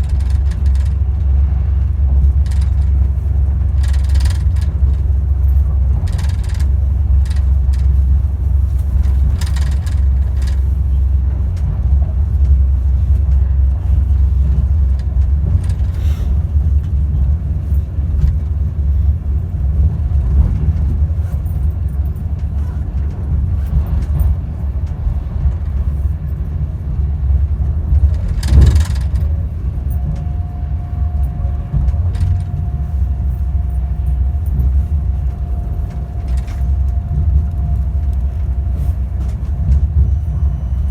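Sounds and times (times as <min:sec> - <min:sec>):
train running gear rumble: 0:00.0 - 0:40.9.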